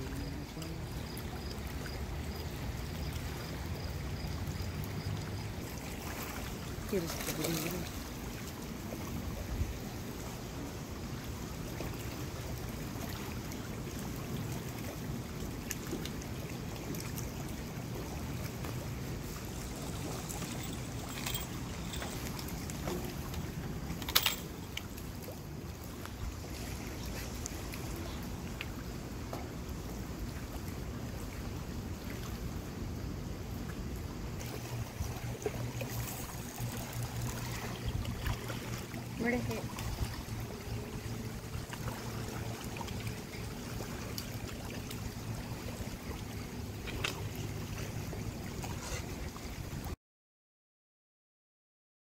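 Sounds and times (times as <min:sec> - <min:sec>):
river rumbling: 0:00.0 - 0:50.0.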